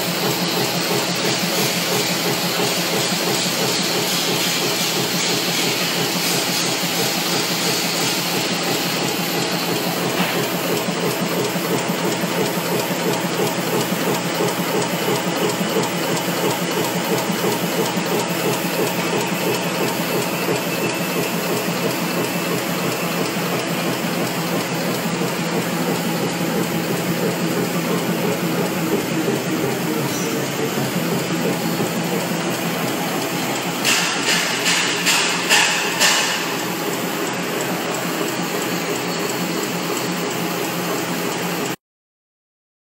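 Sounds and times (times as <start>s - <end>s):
continuous machine hum: 0.0s - 41.8s
machinery clattering: 0.0s - 41.8s.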